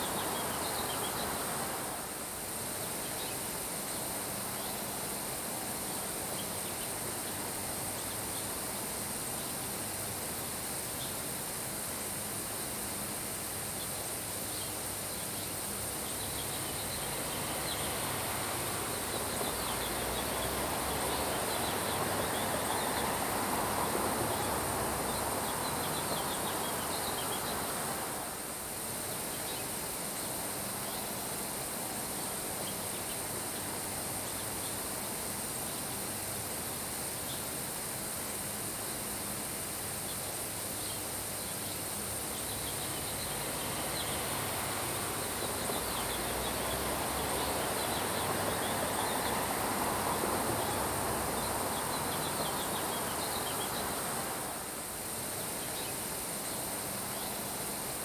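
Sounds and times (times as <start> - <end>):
rain falling on grass: 0.0 - 11.5, 15.6 - 30.8, 37.1 - 58.0.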